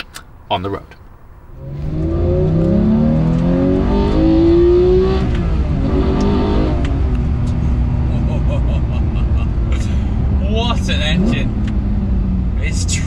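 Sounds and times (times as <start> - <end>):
car engine accelerating hard: 1.5 - 13.0.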